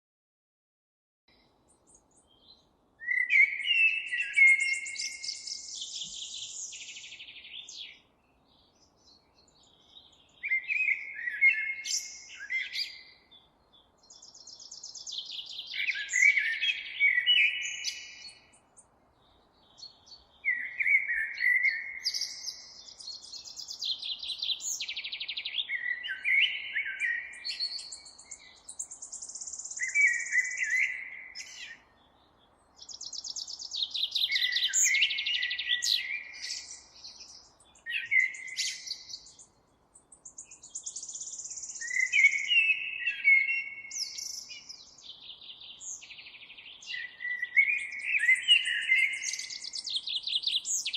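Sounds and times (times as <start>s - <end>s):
songbird singing: 1.3s - 50.9s.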